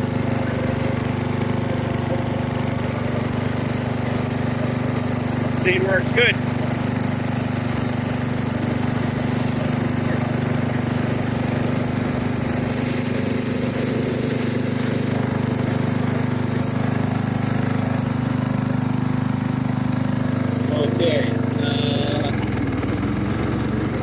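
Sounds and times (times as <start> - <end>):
riding mower engine running: 0.0 - 24.0.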